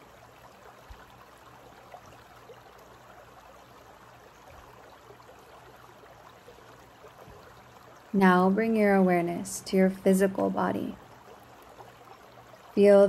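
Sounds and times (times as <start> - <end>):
creek running over rocks: 0.0 - 13.0.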